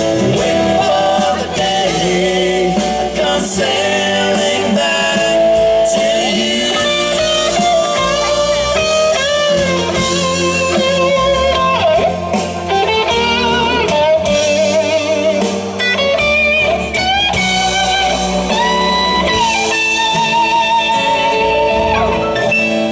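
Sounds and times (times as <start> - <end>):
electric guitar lead: 0.0 - 22.9
live band playing: 0.0 - 22.9.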